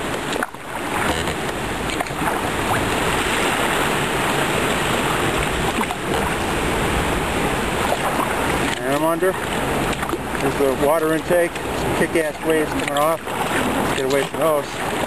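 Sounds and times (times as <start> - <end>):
river water rushing and splashing: 0.0 - 15.0
wind buffeting microphone: 0.0 - 15.0.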